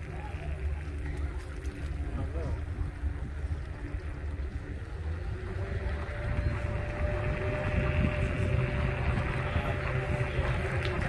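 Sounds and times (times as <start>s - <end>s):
tyres and wind rumble: 0.0s - 11.0s
electric motor whine: 0.5s - 11.0s.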